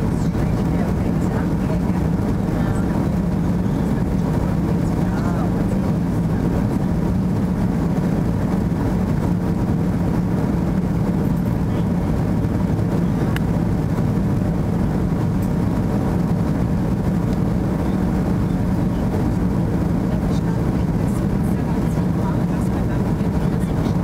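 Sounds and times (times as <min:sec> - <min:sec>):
airplane cabin engine and airflow noise: 0:00.0 - 0:24.0.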